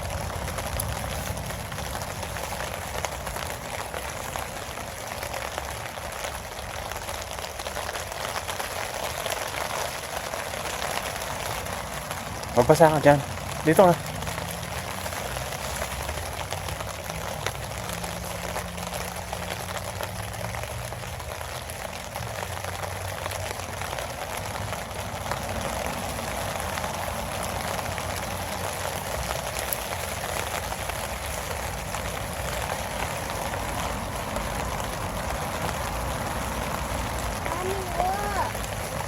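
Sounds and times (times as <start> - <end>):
steady rainfall: 0.0 - 39.0.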